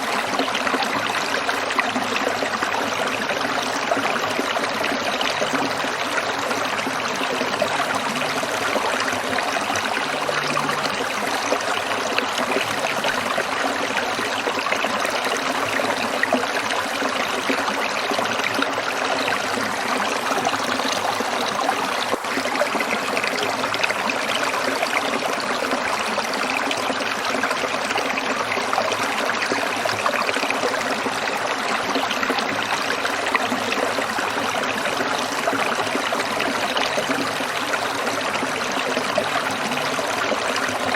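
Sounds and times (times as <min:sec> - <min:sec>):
stream water trickling over stones: 0:00.0 - 0:40.9.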